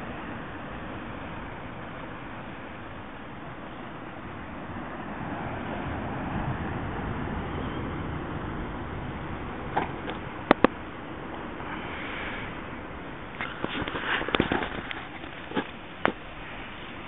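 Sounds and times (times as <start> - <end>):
sea waves washing ashore: 0.0 - 17.0.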